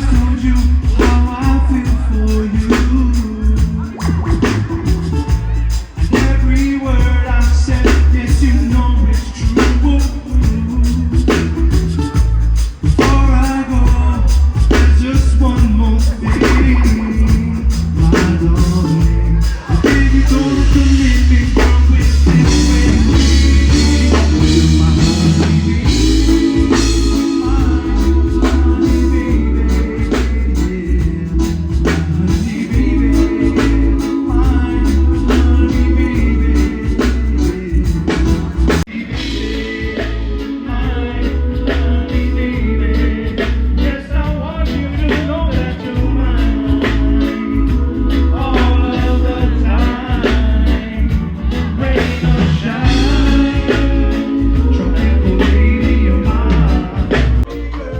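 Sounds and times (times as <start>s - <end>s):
steady drum beat: 0.0s - 57.6s
heavy bass line: 0.0s - 57.9s
person singing: 0.0s - 57.9s.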